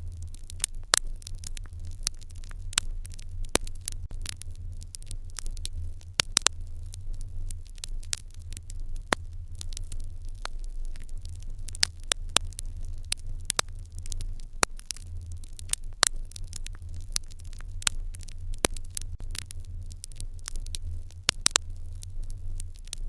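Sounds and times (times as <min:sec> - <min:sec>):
fire crackling and popping: 0:00.0 - 0:23.0
low rumble: 0:00.0 - 0:23.0.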